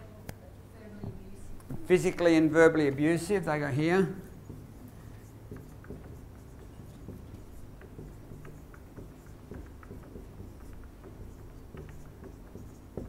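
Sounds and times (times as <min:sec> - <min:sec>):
marker writing on whiteboard: 0:01.0 - 0:13.0.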